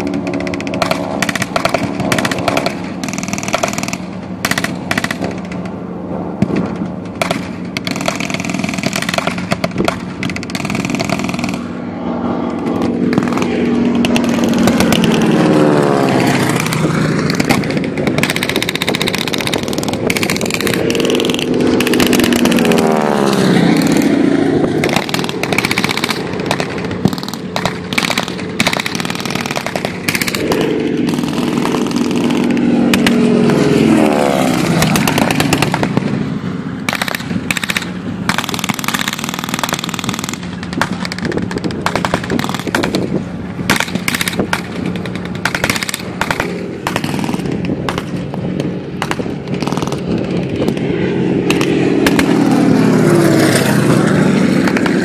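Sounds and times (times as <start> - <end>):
armoured vehicle engine running: 0.0 - 55.0
propeller airplane passing overhead: 0.0 - 55.0.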